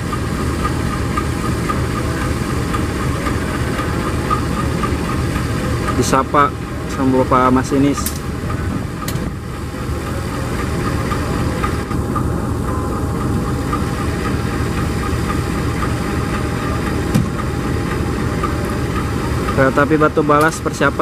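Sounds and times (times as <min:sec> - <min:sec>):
diesel locomotive engine idling: 0:00.0 - 0:21.0
steady hum: 0:00.0 - 0:21.0.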